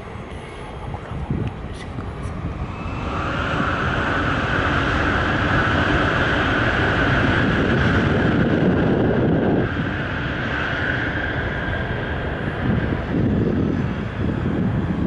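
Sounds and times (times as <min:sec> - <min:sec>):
passing trains rumbling: 0:00.0 - 0:15.0.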